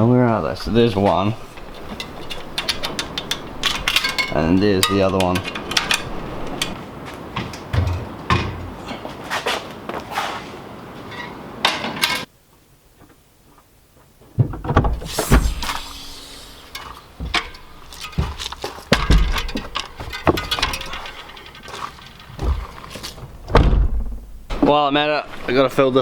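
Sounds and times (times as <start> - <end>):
handling knocks and clunks: 0.0 - 9.6, 14.0 - 25.9.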